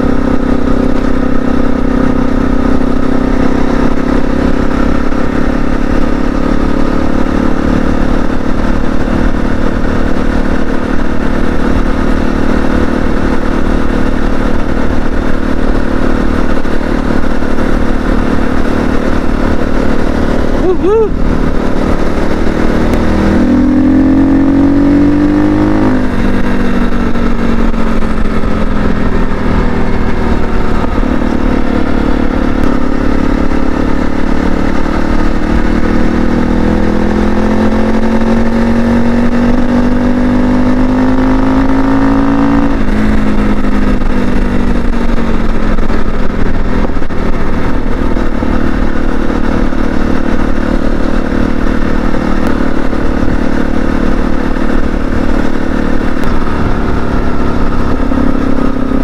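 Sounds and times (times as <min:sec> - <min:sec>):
motorcycle engine: 0:00.0 - 0:59.0
steady rushing noise: 0:00.0 - 0:59.0.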